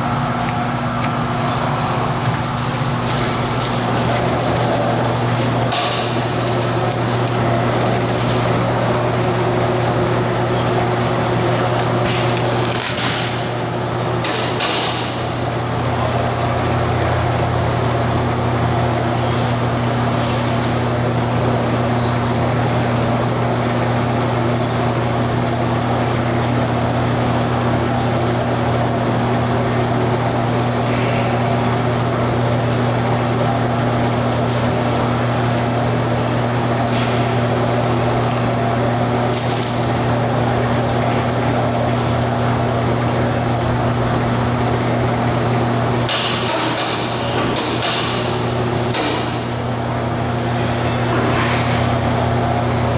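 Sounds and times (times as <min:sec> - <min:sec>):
machine hum with high whine: 0:00.0 - 0:52.9.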